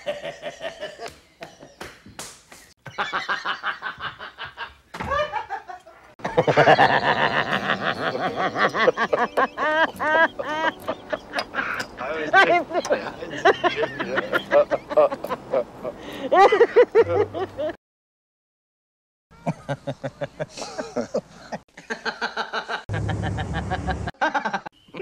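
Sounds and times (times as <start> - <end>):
man laughing: 0.0 - 1.8, 2.8 - 17.8, 19.4 - 24.7.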